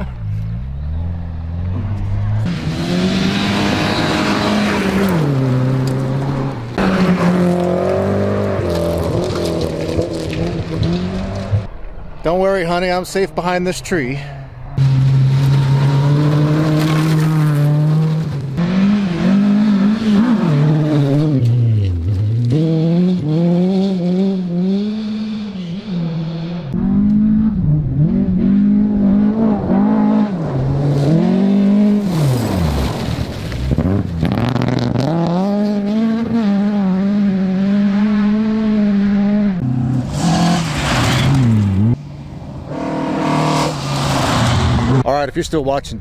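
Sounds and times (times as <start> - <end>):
rally car engines revving: 0.0 - 12.2, 14.3 - 45.0.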